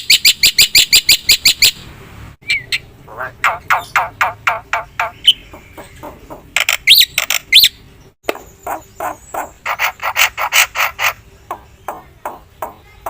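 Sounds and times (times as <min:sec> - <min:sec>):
bird chattering: 0:02.4 - 0:13.0.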